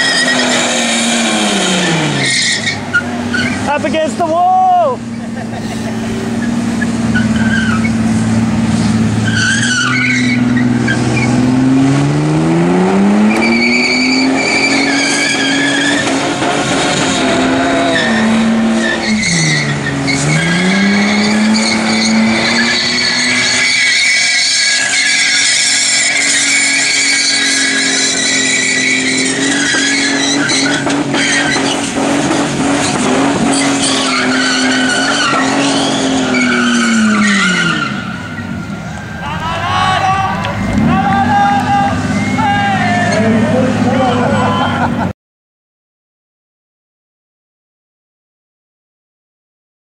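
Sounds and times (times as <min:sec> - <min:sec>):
car engine revving high: 0:00.0 - 0:04.3, 0:05.0 - 0:38.8, 0:39.4 - 0:45.1
tyres squealing: 0:00.0 - 0:11.4, 0:13.3 - 0:16.2, 0:17.8 - 0:44.9.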